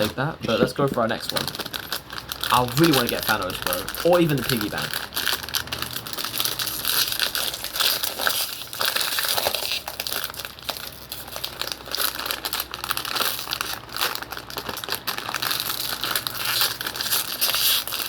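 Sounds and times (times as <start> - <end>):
plastic wrapper crinkling: 0.0 - 18.0.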